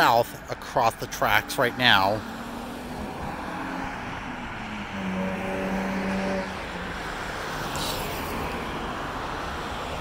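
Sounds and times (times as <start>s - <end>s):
cars driving past: 0.1s - 10.0s.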